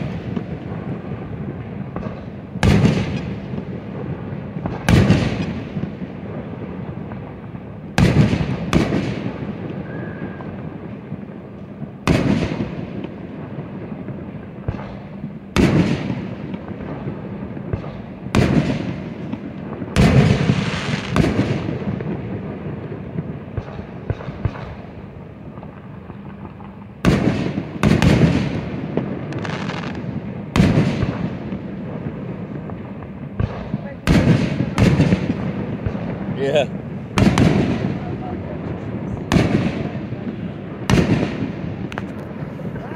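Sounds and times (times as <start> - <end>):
fireworks booming with echo: 0.0 - 42.9
small fireworks pops: 0.0 - 42.9.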